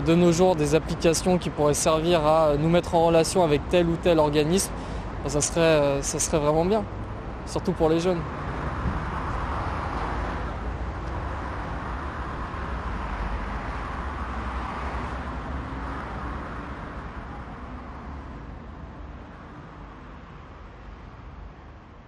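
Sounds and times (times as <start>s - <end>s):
rumble of passing cars: 0.0s - 22.0s.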